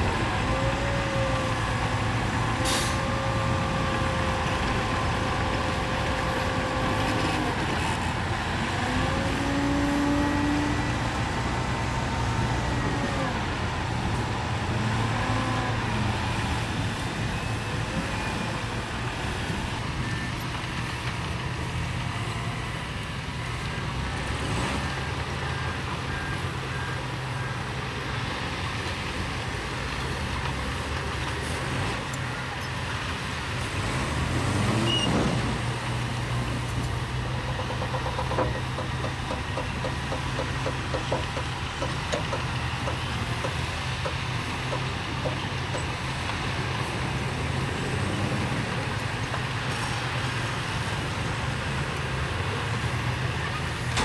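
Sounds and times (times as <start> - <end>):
diesel truck engines running: 0.0 - 54.0.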